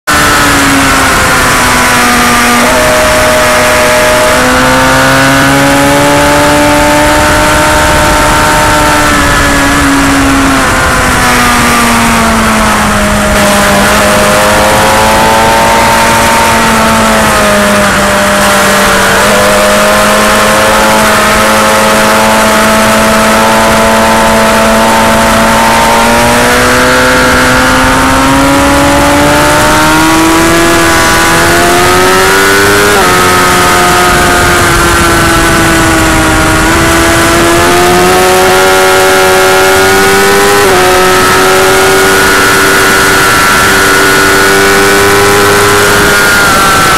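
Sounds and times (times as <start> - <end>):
motorcycle engine at speed: 0.0 - 46.9
wind noise rushing: 0.1 - 46.9.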